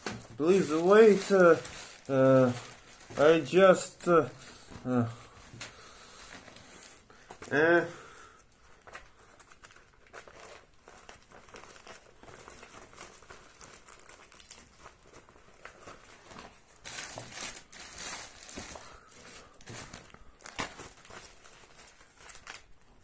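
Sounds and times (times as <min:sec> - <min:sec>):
plastic sheets crinkling: 0:00.0 - 0:23.0.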